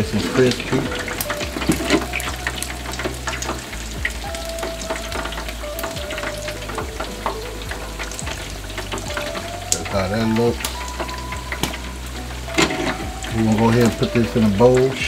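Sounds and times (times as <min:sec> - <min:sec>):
wings deep-frying in oil: 0:00.0 - 0:15.0.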